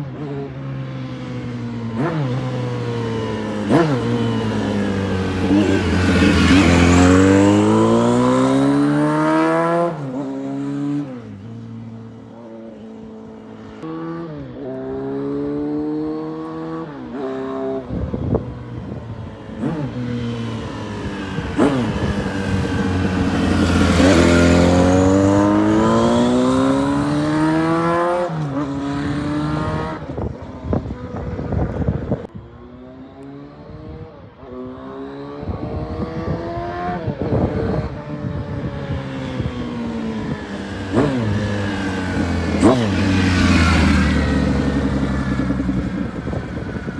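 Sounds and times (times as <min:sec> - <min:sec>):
motorcycle engine revving through gears: 0:00.0 - 0:46.9.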